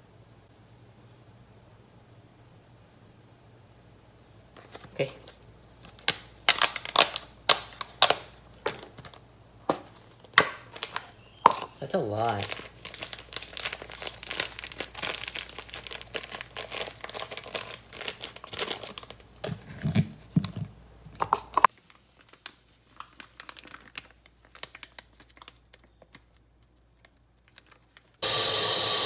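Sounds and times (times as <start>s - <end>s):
plastic bag crinkling: 4.6s - 28.2s.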